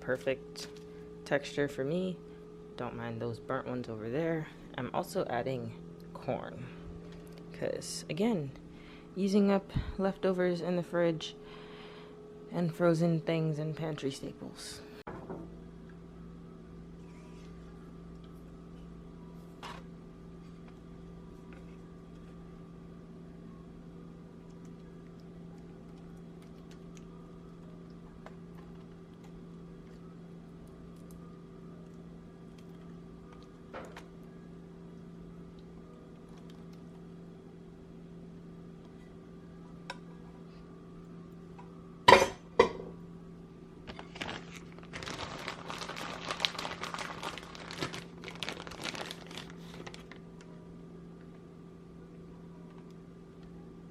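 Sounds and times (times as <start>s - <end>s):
steady hum: 0.0s - 53.9s.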